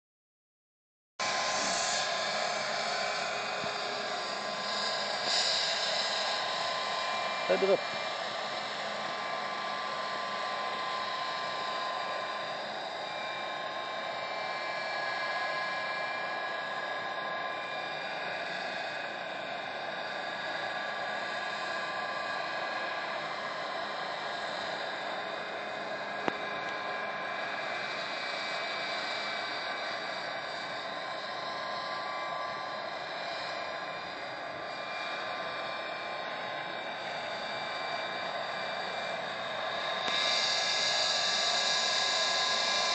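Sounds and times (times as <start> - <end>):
gas turbine engine whine: 1.2 - 42.9.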